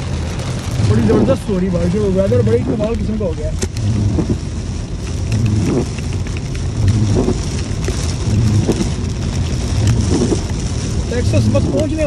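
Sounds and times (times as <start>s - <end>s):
heavy rain on car windshield: 0.0s - 12.0s
tyre and road noise: 0.0s - 12.0s.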